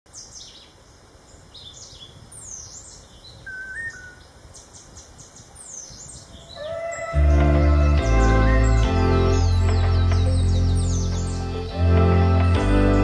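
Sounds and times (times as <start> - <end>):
birds chirping and whistling: 1.6 - 13.0.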